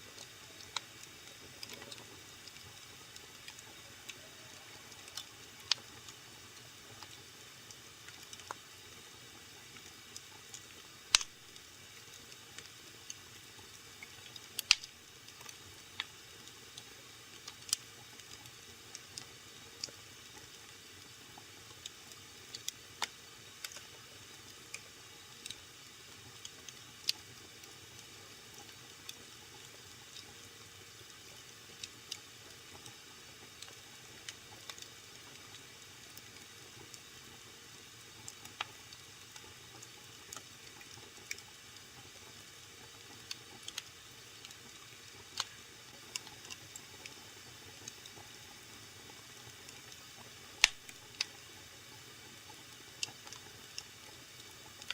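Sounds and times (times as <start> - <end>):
fire crackling and popping: 0.0 - 54.9
wood fire hissing: 0.0 - 54.9.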